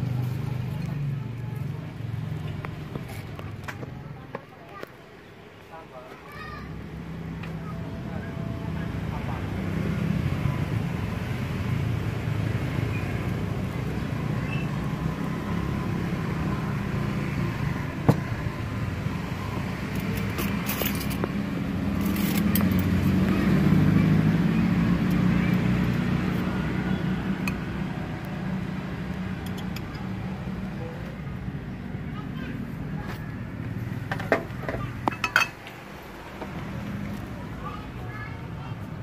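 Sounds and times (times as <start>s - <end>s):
traffic rumble: 0.0s - 39.0s
vehicle passing: 7.0s - 39.0s.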